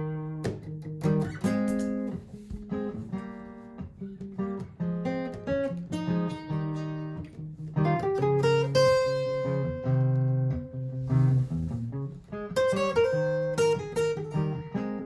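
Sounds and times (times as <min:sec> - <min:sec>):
acoustic guitar plucked notes: 0:00.0 - 0:15.0
looped guitar accompaniment: 0:00.0 - 0:15.0.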